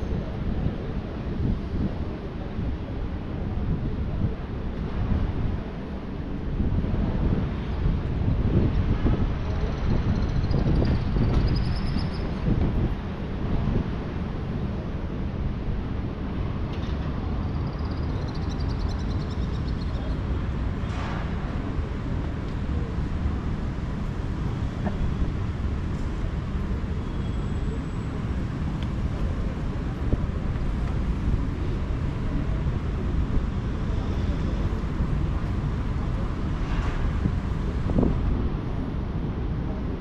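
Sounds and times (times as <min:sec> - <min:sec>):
distant traffic rumble: 0:00.0 - 0:40.0.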